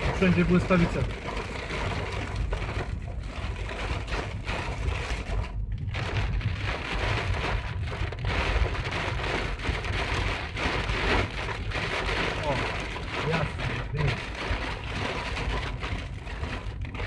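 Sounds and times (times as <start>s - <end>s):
low thunder rumble: 0.0s - 17.0s.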